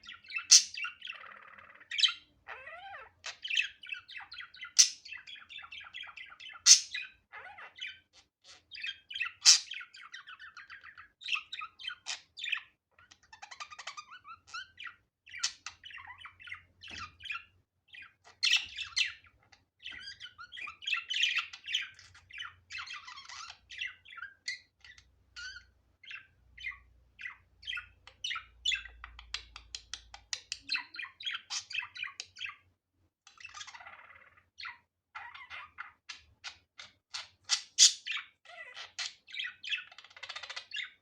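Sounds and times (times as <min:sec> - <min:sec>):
budgerigar chirping and chattering: 0:00.0 - 0:32.7, 0:33.3 - 0:41.0.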